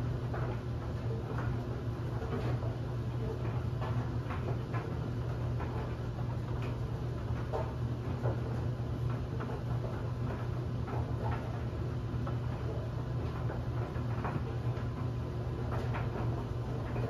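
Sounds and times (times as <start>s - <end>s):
clothes dryer humming: 0.0s - 17.0s
laundry ticking in dryer drum: 0.0s - 17.0s.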